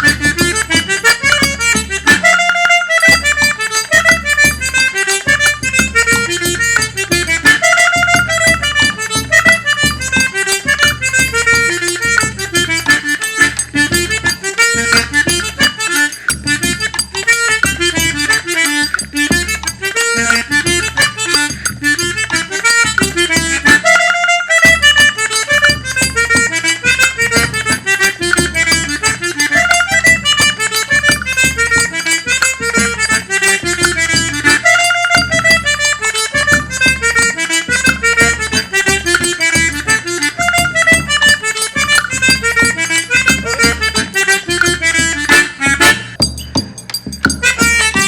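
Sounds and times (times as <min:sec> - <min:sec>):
button accordion playing fast tune: 0:00.0 - 0:48.0.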